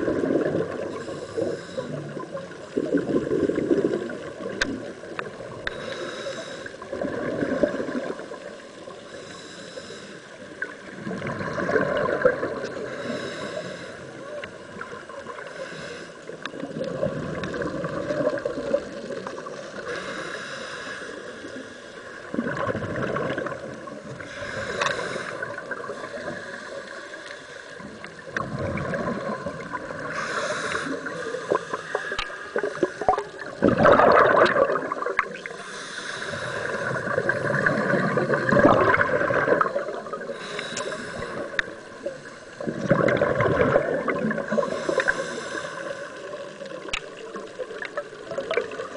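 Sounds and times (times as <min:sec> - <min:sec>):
exhaled bubbles gurgling underwater: 0:00.0 - 0:48.9.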